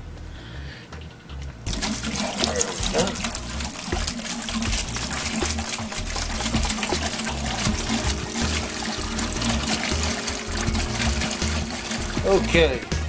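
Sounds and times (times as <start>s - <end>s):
liquid pouring into metal pot: 1.7s - 12.9s.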